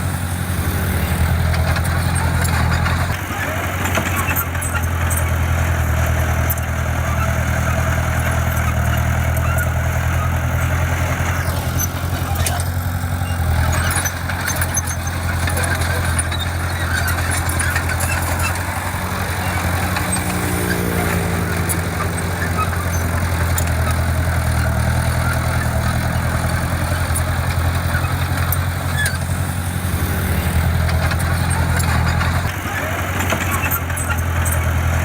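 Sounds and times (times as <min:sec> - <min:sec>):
diesel engine humming: 0:00.0 - 0:35.0.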